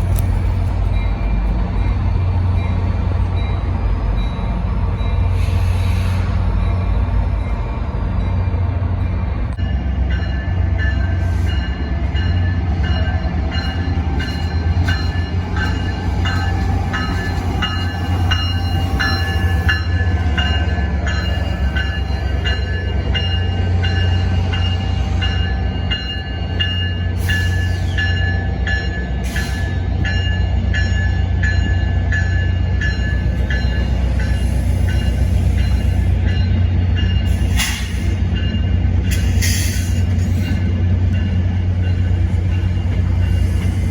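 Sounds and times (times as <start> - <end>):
train low rumble: 0.0 - 43.9
locomotive bell ringing: 0.2 - 5.4, 6.6 - 43.8.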